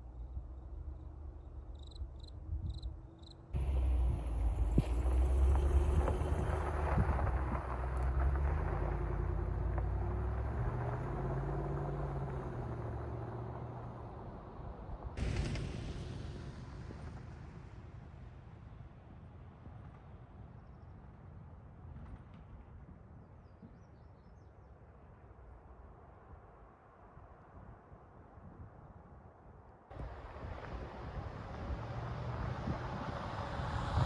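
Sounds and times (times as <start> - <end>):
truck engine and road rumble: 0.0 - 23.9, 24.7 - 34.0.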